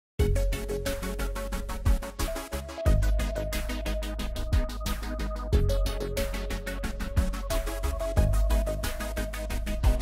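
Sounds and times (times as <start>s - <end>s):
electronic music: 0.2s - 10.0s.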